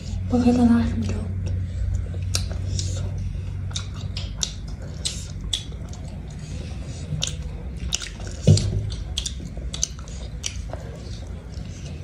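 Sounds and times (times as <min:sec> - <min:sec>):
wet chewing and lip smacks: 0:01.3 - 0:12.0.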